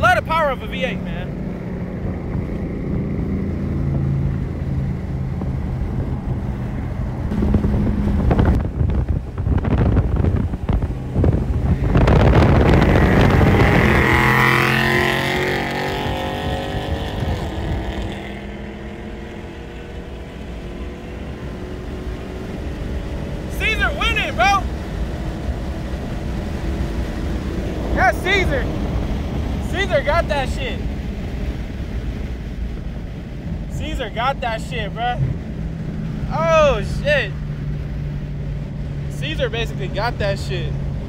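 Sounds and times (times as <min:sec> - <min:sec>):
car engine revving: 0:00.0 - 0:41.0
supercharger whine: 0:00.0 - 0:41.0.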